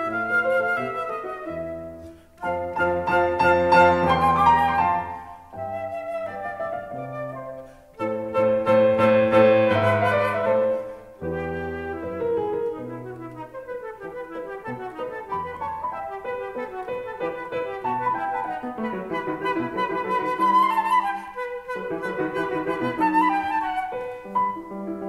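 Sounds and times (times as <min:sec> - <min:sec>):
classical music with flute lead: 0:00.0 - 0:25.0.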